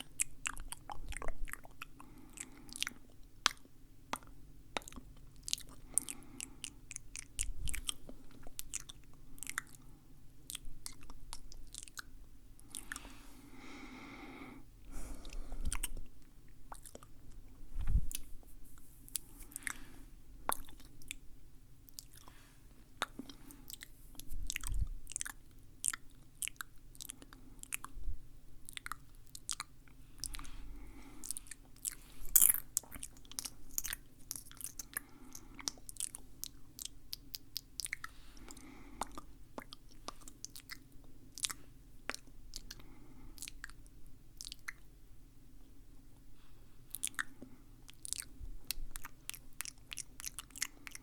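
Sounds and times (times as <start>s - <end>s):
wet lip and tongue clicks: 0.0s - 13.1s, 15.2s - 18.3s, 20.5s - 21.2s, 21.8s - 28.0s, 28.7s - 30.6s, 31.2s - 45.0s, 46.9s - 51.0s.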